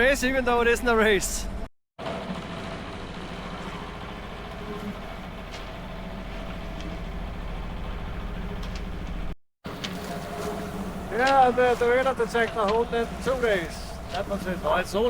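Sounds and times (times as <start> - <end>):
marine diesel engine droning: 1.5 - 15.0.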